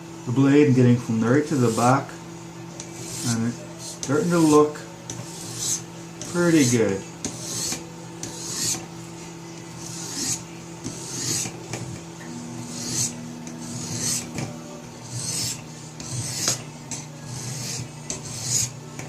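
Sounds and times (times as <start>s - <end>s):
sharpening stone rasping on knife: 2.8s - 8.9s, 9.7s - 19.0s.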